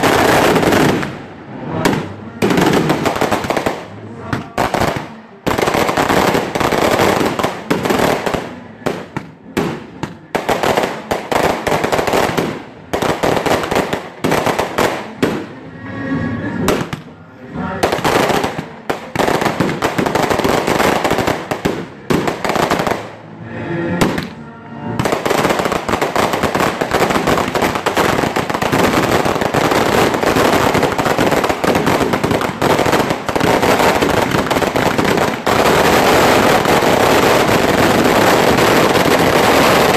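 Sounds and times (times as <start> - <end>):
fireworks bangs: 0.0 - 15.5, 17.8 - 23.1, 25.0 - 39.9
firecrackers crackling: 0.0 - 15.6, 17.7 - 23.2, 25.0 - 39.9.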